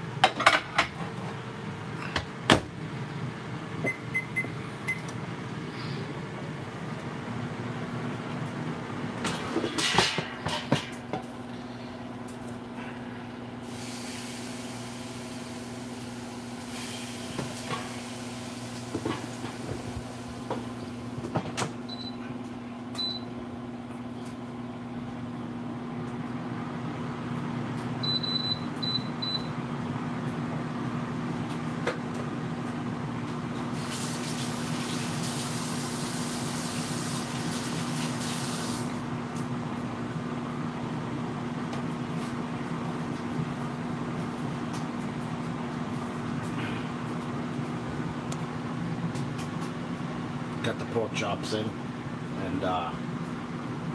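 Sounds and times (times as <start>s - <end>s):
microwave oven humming: 0.0s - 53.9s.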